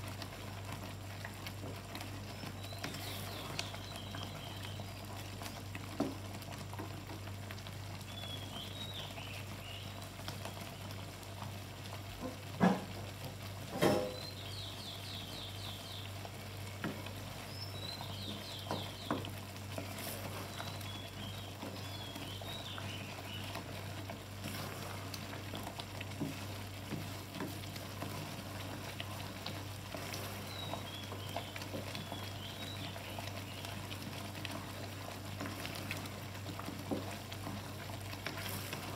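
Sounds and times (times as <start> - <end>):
sauce sizzling and bubbling in pan: 0.0 - 38.9.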